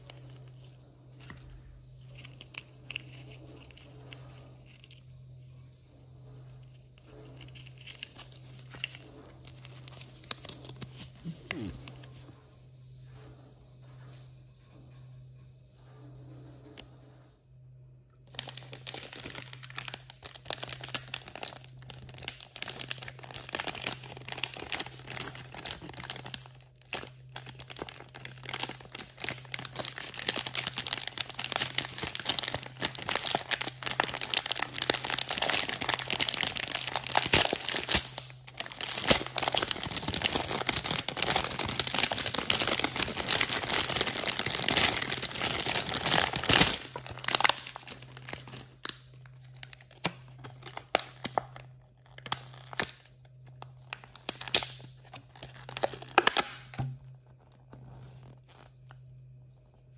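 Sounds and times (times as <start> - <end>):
plastic packaging crinkling and tearing: 0.0 - 5.0, 7.2 - 12.4, 18.3 - 59.1.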